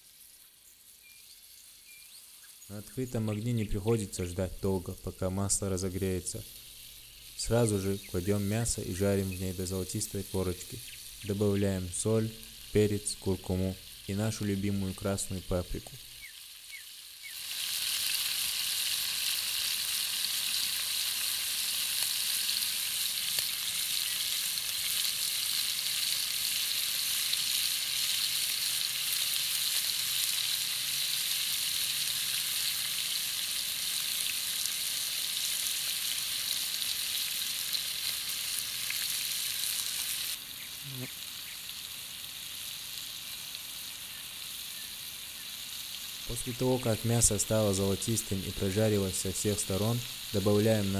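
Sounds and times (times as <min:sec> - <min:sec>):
meat sizzling in frying pan: 0:00.0 - 0:50.9.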